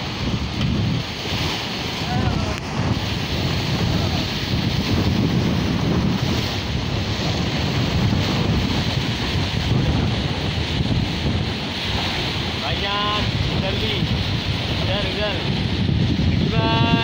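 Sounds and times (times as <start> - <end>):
waves breaking against rocks: 0.0 - 17.0
wind buffeting microphone: 0.0 - 17.0.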